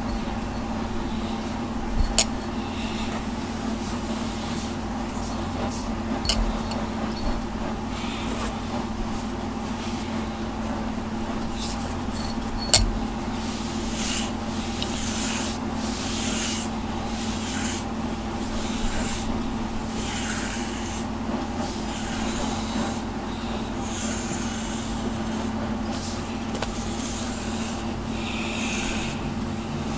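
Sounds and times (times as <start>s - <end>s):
brush stroking cat fur: 0.0s - 29.9s
steady hum: 0.0s - 29.9s.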